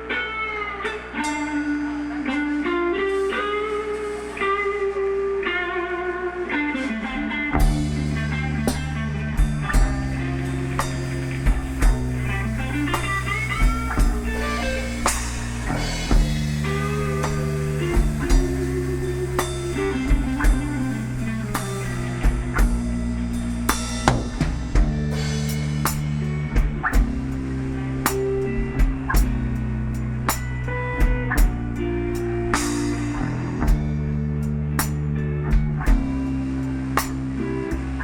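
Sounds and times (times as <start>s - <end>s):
bass: 0.0s - 38.0s
blues guitar with bent notes: 0.0s - 38.0s
drum kit: 6.8s - 38.0s.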